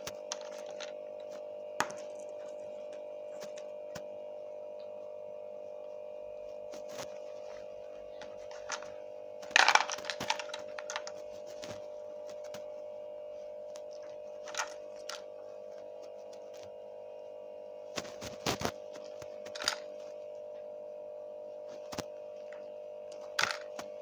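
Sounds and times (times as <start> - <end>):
steady humming tone: 0.0 - 24.0.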